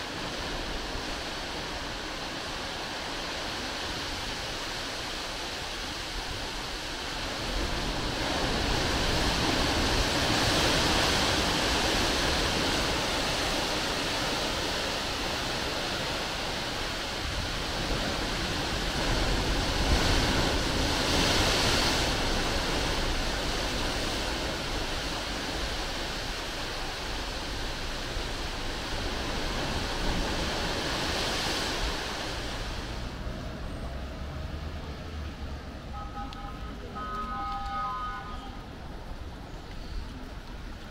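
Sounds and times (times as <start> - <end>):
sea waves breaking on rocks: 0.0 - 33.5.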